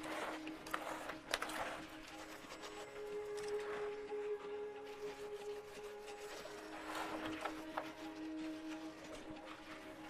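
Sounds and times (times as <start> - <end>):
background music held note: 0.0 - 10.0.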